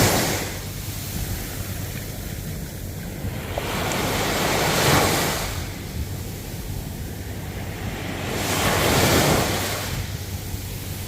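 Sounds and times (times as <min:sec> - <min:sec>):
ocean waves breaking: 0:00.0 - 0:11.0
wind buffeting microphone: 0:00.0 - 0:11.0.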